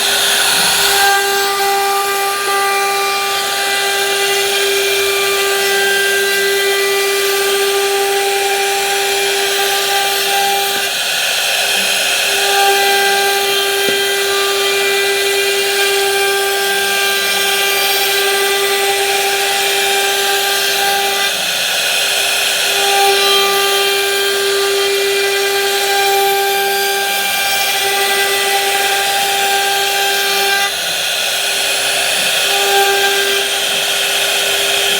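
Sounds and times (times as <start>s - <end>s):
power tool whining on wood: 0.0s - 34.9s.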